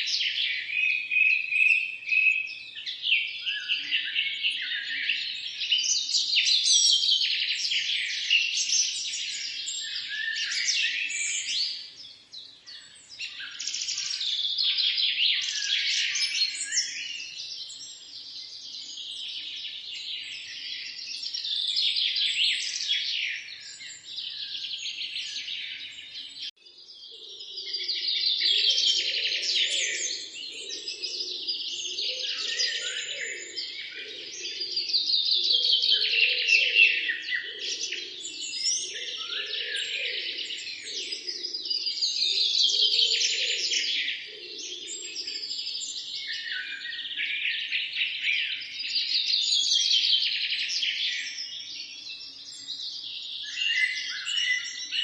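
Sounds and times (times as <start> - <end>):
birds chirping and singing: 0.0 - 55.0.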